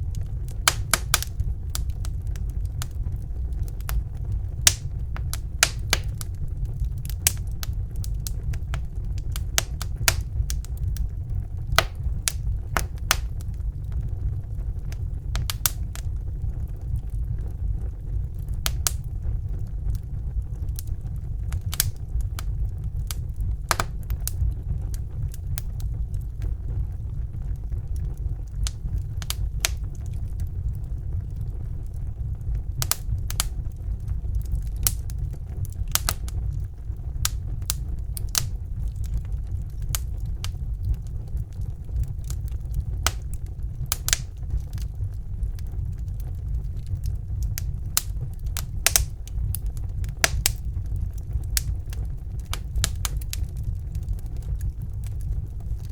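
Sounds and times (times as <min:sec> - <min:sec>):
low rumble of fire: 0:00.0 - 0:55.9
wood fire crackling and popping: 0:00.0 - 0:55.9.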